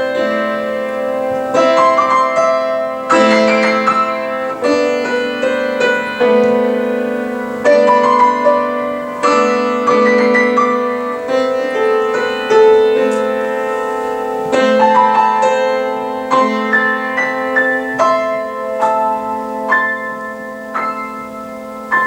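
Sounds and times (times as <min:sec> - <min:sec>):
slow solo piano piece: 0:00.0 - 0:22.0.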